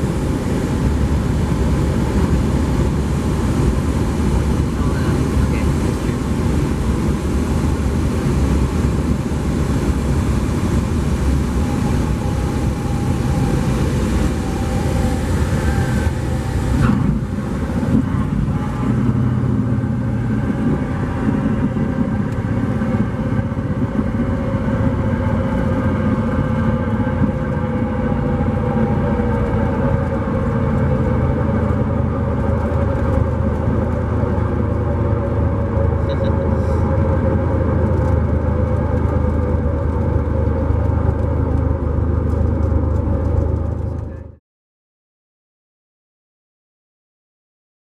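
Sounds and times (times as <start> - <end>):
rushing wind: 0.0 - 44.0
aircraft engine and propeller: 0.0 - 44.4.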